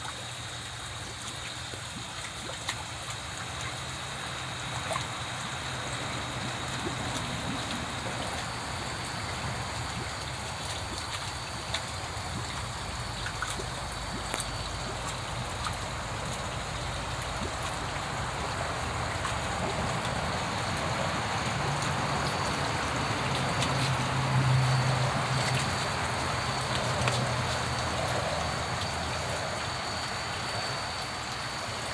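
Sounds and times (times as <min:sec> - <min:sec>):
trickle of running water: 0:00.0 - 0:31.9.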